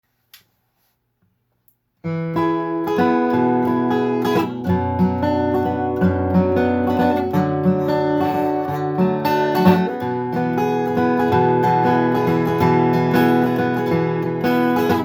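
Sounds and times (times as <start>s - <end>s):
acoustic guitar strumming: 2.0s - 15.0s.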